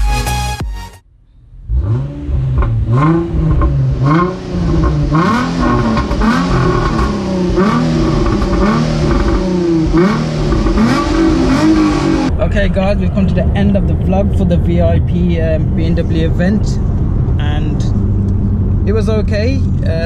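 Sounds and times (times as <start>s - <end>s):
car engine revving: 1.1s - 20.0s.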